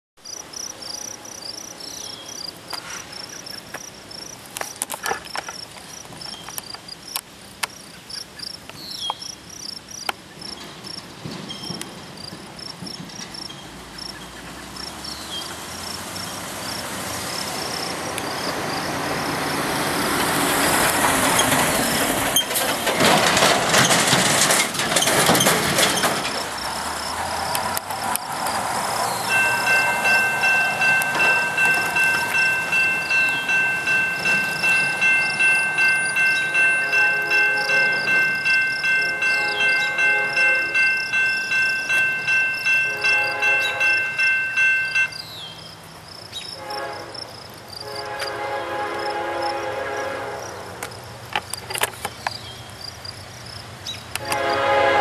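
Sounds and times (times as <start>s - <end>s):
high insect chirping: 0.2s - 20.0s, 25.0s - 54.1s
freight train rushing: 0.3s - 4.4s, 10.2s - 52.4s, 53.2s - 55.0s.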